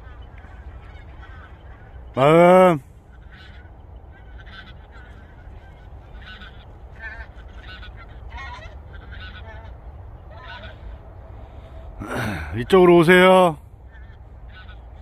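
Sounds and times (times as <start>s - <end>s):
birds calling: 0.0s - 15.0s
steady low rumble: 2.8s - 15.0s.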